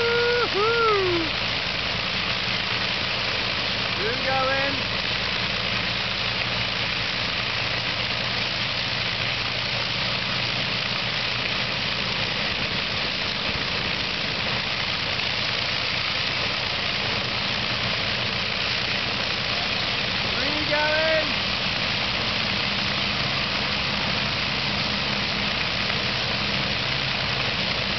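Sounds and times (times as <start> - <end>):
piston aircraft engines idling: 0.0 - 27.9.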